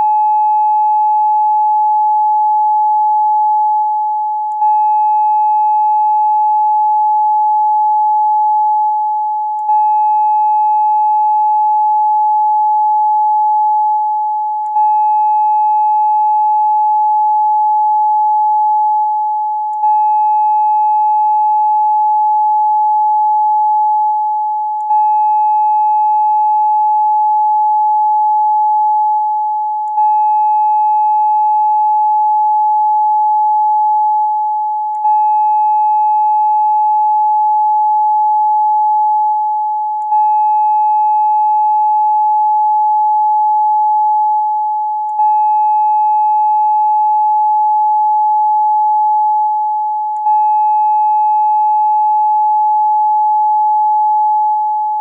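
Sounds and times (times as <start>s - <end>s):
electronic pure tone: 0.0s - 55.0s.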